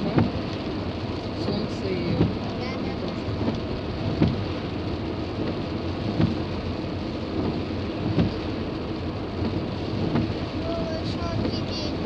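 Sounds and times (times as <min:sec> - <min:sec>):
rain and road noise inside car: 0:00.0 - 0:12.0.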